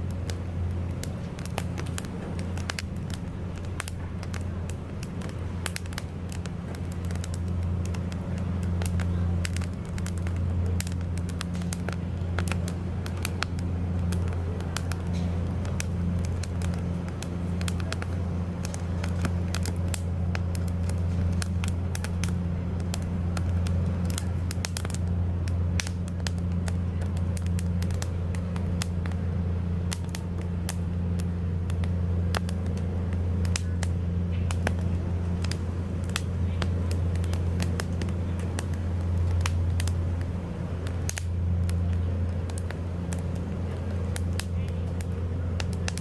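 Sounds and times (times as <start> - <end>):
campfire crackling and popping: 0.0 - 46.0
low hum: 0.0 - 46.0.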